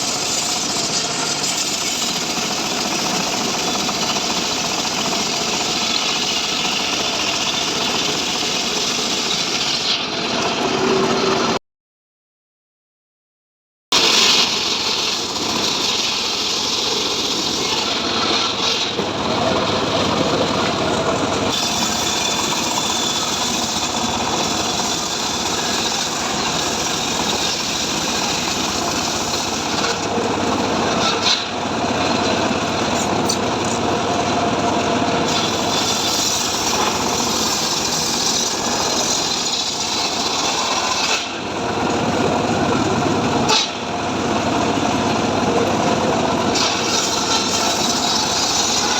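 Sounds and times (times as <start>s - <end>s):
engine saw cutting wood: 0.0s - 11.6s, 14.0s - 48.9s.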